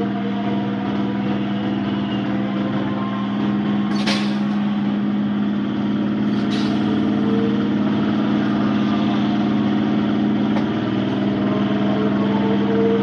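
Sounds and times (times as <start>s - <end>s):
train passing with hum and rumble: 0.0s - 13.0s.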